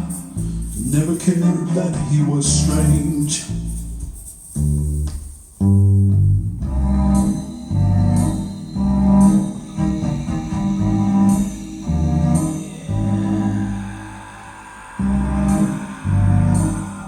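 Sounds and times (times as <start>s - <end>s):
deep bass line: 0.0s - 14.3s, 15.0s - 17.0s.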